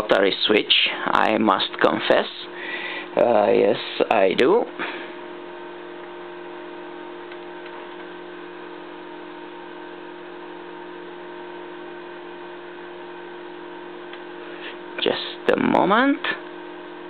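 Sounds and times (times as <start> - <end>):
steady hum with fixed tones: 0.0 - 17.0.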